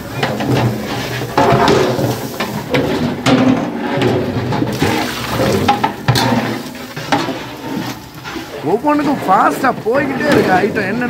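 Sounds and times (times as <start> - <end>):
liquid sloshing in a pot: 0.0 - 10.8
metal knocks and clatter: 0.0 - 11.0.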